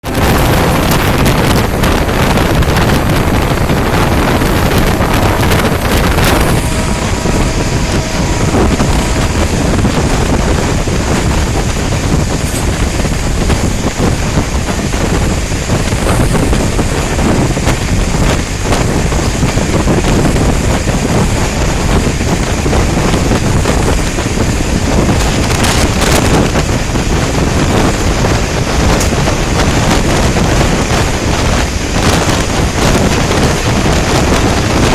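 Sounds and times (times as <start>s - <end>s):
train rumbling at speed: 0.0s - 34.9s
wind buffeting microphone: 0.0s - 34.9s.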